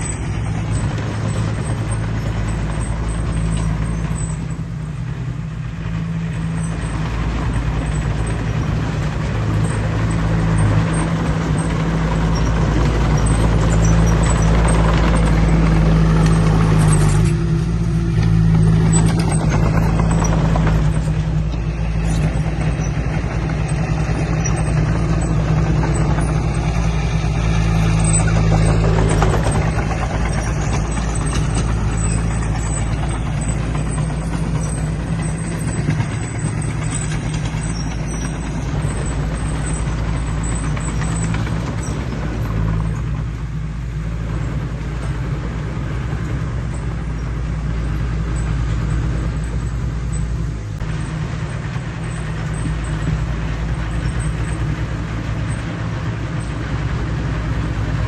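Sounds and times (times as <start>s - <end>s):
diesel engine drone: 0.0s - 58.0s
heavy machinery working: 0.0s - 58.0s.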